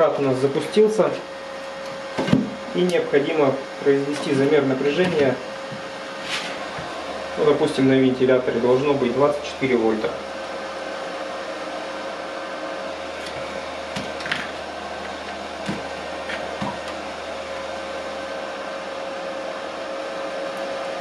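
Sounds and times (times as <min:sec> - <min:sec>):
cooling fan whining: 0:00.0 - 0:21.0.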